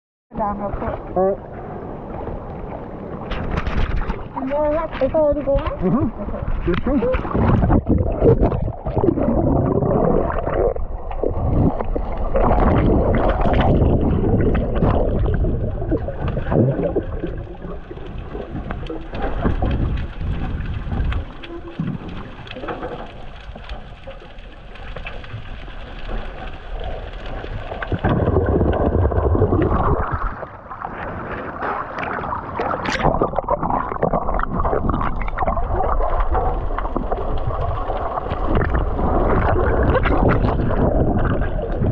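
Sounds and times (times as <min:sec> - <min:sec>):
muffled underwater rushing water: 0:00.3 - 0:41.9.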